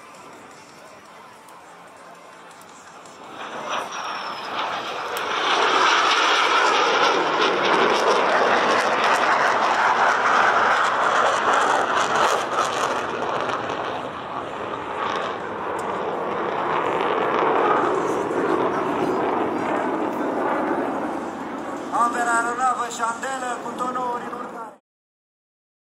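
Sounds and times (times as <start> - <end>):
jet afterburner roar: 0.0 - 24.8.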